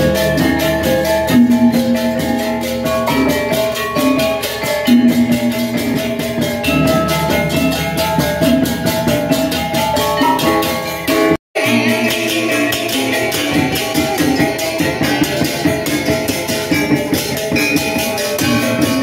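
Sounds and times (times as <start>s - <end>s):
gamelan playing: 0.0s - 19.0s.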